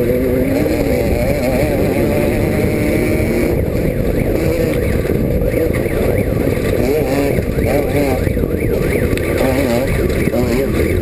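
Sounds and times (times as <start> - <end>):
race car engine running hard: 0.0 - 11.0.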